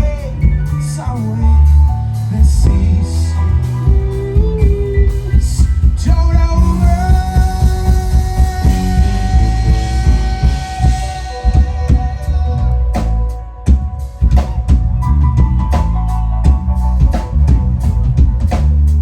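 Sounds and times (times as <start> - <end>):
drums: 0.0 - 19.0
electric bass: 0.0 - 19.0.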